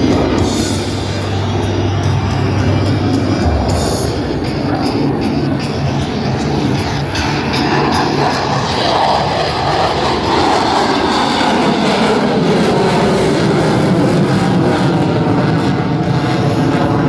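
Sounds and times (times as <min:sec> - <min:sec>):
jet fighter flying over: 0:00.0 - 0:17.0.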